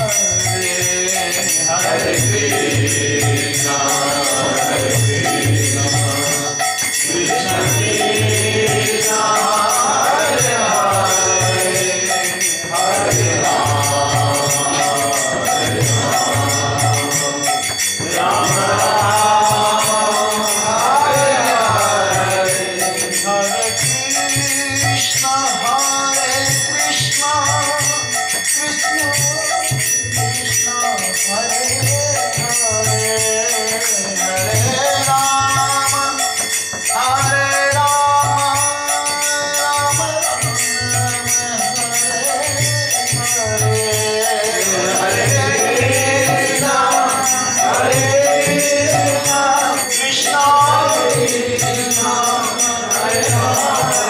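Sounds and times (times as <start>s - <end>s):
man singing a devotional chant: 0.0s - 54.0s
metallic ringing of hand cymbals: 0.0s - 54.0s.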